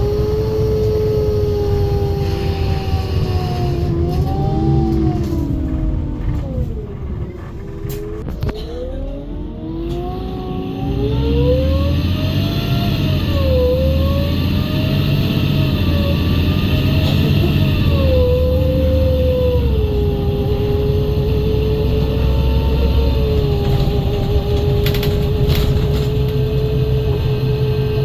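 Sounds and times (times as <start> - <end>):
bus engine whining and accelerating: 0.0 - 28.0.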